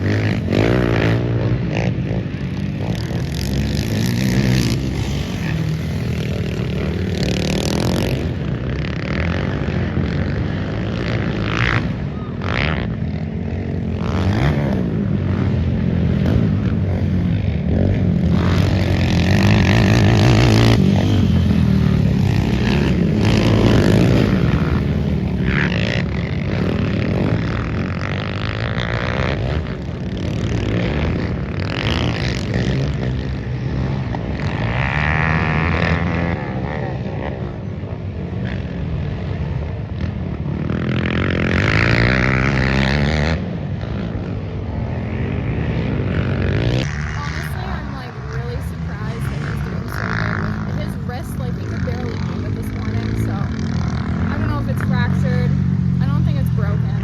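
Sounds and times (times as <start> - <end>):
quad engines revving: 0.0 - 57.0.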